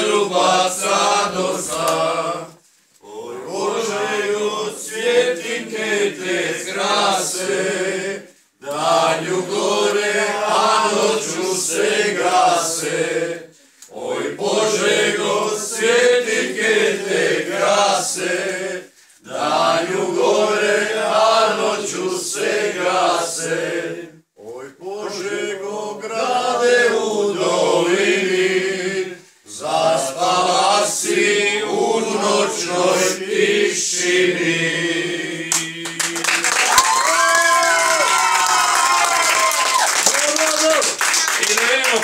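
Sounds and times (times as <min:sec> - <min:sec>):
group singing without instruments: 0:00.0 - 0:36.6.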